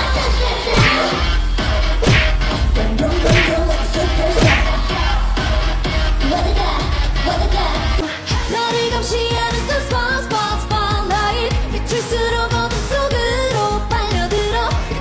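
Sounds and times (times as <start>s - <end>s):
pop song with high singing: 0.0s - 15.0s.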